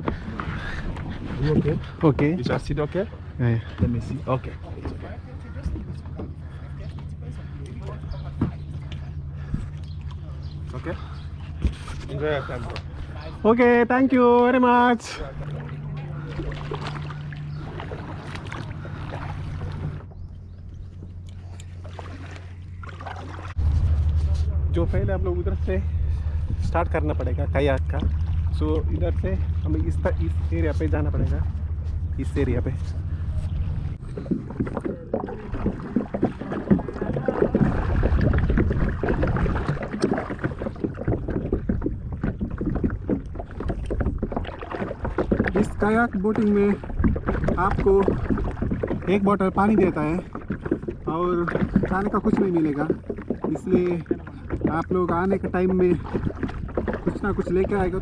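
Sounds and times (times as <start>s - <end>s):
paddles splashing in water: 0.0s - 58.0s
steady low hum: 0.0s - 58.0s.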